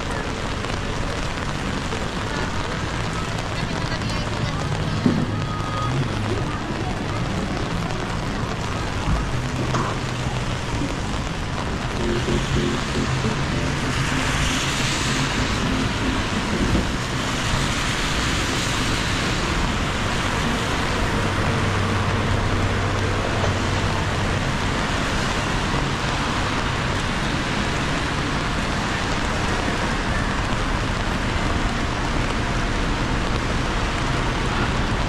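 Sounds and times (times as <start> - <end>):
steady rain: 0.0 - 35.0
tyres hissing on wet asphalt: 0.0 - 35.0
vehicle engine humming: 0.0 - 35.0.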